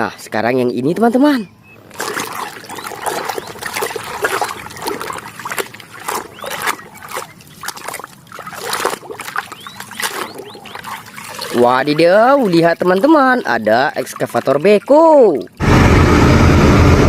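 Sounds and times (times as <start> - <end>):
water splashing: 1.0 - 15.8.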